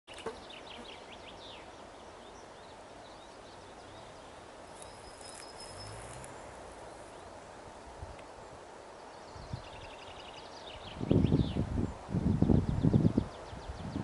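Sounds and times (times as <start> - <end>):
outdoor background hiss: 0.1 - 14.0
small birds chirping: 0.1 - 14.0.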